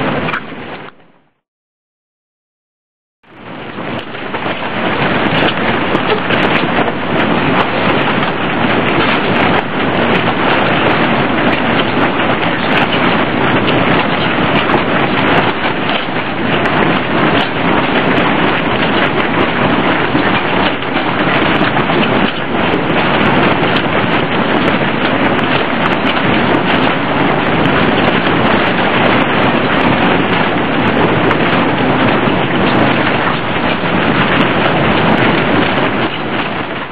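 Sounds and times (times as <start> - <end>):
loud rushing wind: 0.0 - 1.3, 3.2 - 36.9.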